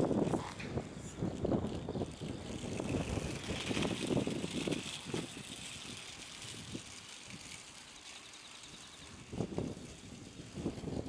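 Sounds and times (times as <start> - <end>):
wind gusting on microphone: 0.0 - 7.6, 9.1 - 11.0.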